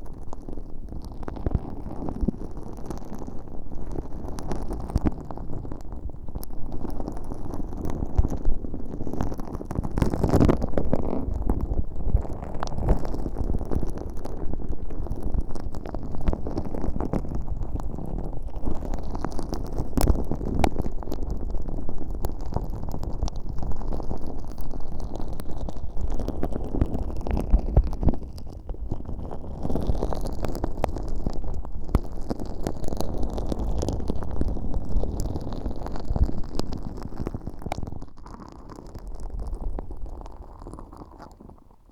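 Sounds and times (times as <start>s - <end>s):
slime squelching and crackling: 0.0s - 41.9s.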